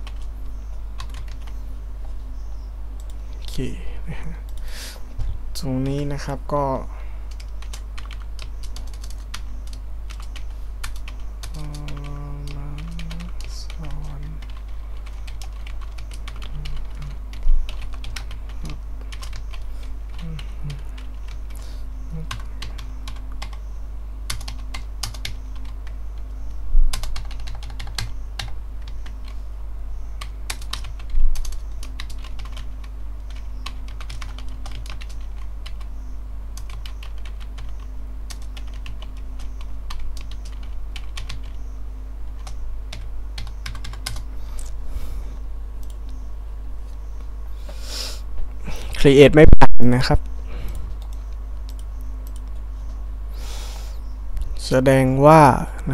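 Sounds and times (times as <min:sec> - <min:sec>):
electrical hum: 0:00.0 - 0:55.9.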